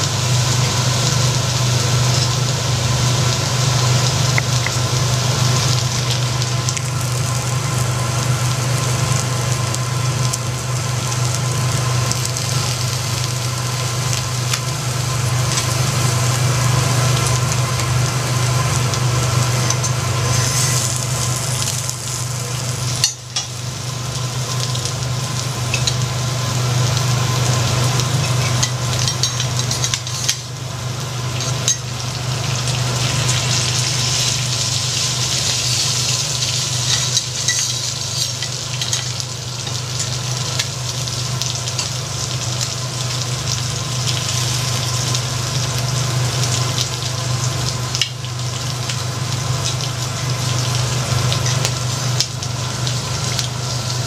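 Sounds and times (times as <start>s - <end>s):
prawns sizzling on griddle: 0.0s - 54.0s
steady low hum: 0.0s - 54.0s.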